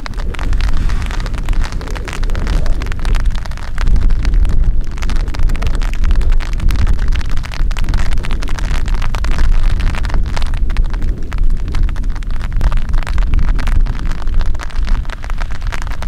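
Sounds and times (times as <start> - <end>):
raindrops ticking: 0.0 - 16.0
wind buffeting microphone: 0.0 - 16.0.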